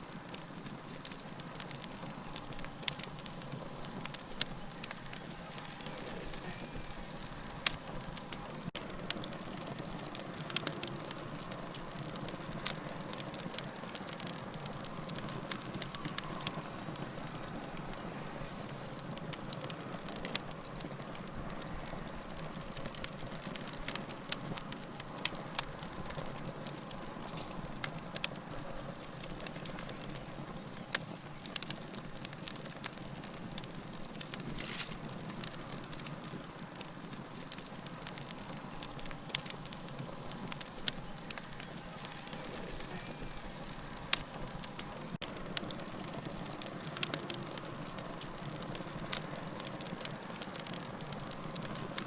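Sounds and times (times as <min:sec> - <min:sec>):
fire crackles and pops: 0:00.0 - 0:52.0
wood fire low rushing: 0:00.0 - 0:52.0.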